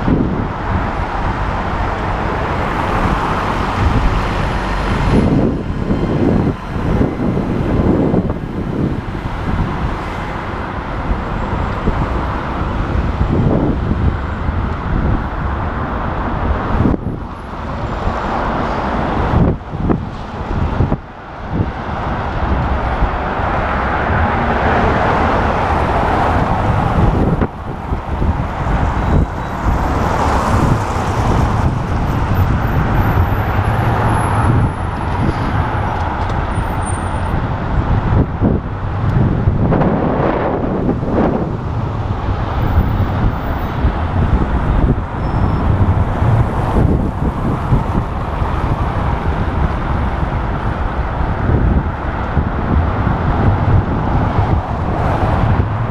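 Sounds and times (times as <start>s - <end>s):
city road traffic: 0.0s - 55.9s
wind rushing over microphone: 0.0s - 55.9s.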